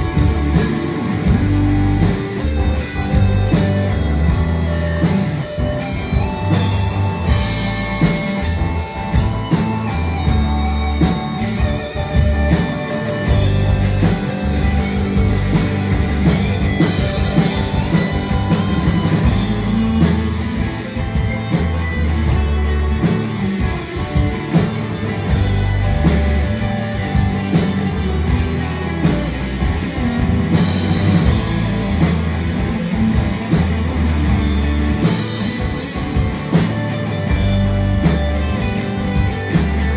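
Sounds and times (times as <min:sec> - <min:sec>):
bass guitar: 0:00.0 - 0:39.9
drum kit: 0:00.0 - 0:39.9
electric guitars: 0:00.0 - 0:39.9.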